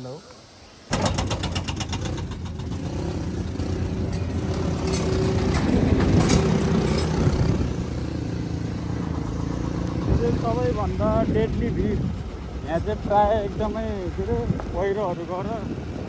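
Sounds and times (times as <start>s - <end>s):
motorcycle engine running: 0.9s - 15.7s.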